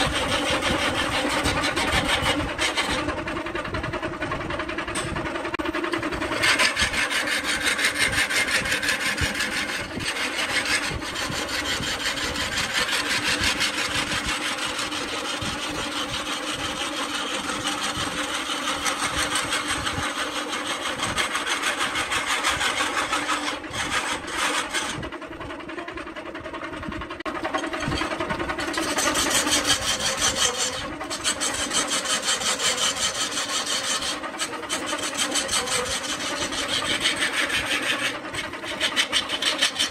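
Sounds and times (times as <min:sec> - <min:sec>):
lathe humming: 0:00.0 - 0:03.4, 0:04.6 - 0:26.0, 0:27.2 - 0:39.9
lathe tool rasping wood: 0:00.0 - 0:03.4, 0:04.1 - 0:25.2, 0:27.2 - 0:39.9.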